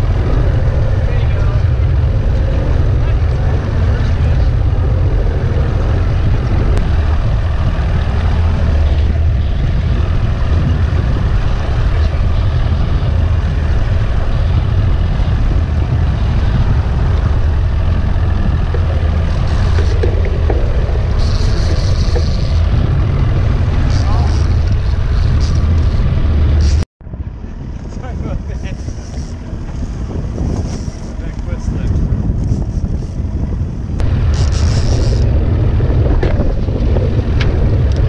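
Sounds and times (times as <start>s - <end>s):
boat engine droning: 0.0s - 38.0s
wind: 0.0s - 38.0s.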